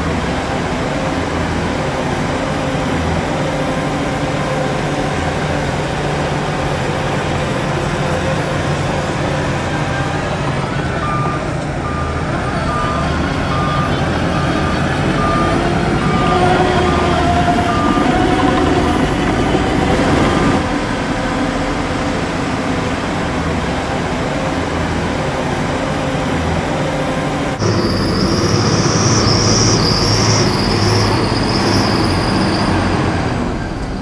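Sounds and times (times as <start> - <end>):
bulldozer diesel engine running: 0.0 - 34.0
high wavering track squeal: 0.0 - 34.0.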